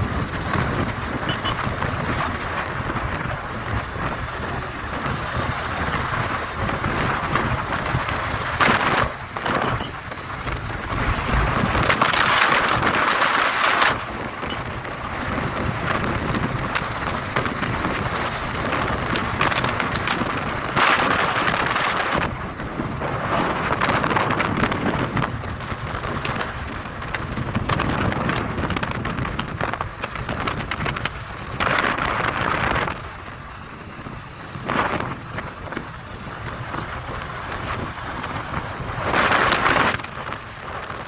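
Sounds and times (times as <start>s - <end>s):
road and engine noise: 0.0s - 41.0s
wind rushing over microphone: 0.0s - 41.0s.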